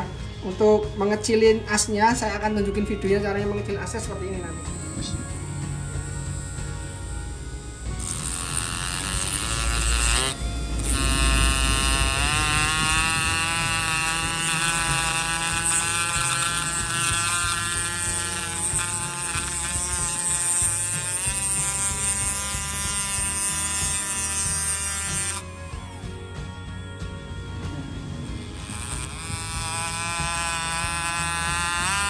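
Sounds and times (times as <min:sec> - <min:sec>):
electric motor whine: 0:00.0 - 0:32.0.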